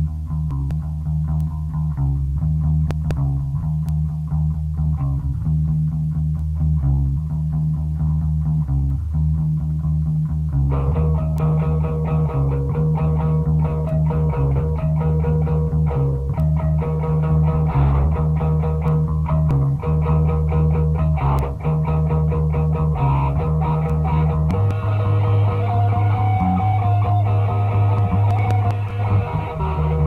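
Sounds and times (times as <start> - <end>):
bass line: 0.0 - 30.0
guitar: 0.0 - 30.0.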